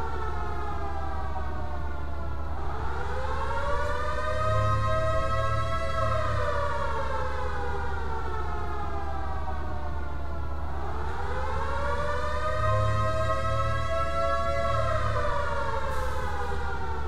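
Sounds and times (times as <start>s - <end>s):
warning siren wailing: 0.0s - 17.0s.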